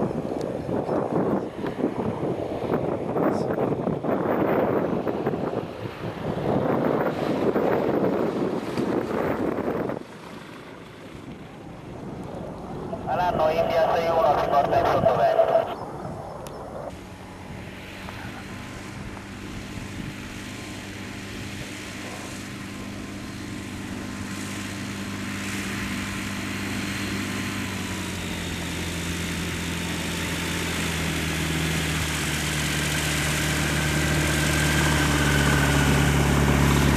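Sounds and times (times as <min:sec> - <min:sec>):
propeller airplane engine running: 0:00.0 - 0:36.9.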